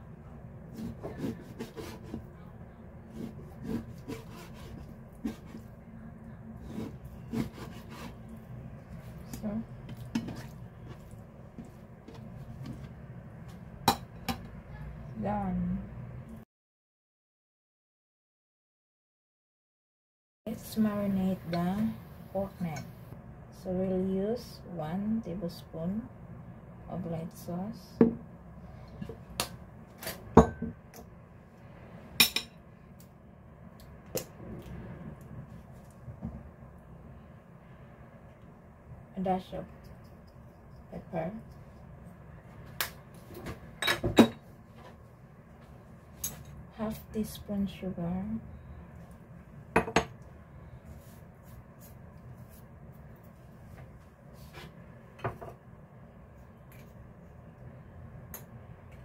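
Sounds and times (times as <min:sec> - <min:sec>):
steady low hum: 0:00.0 - 0:16.4, 0:20.5 - 0:59.0.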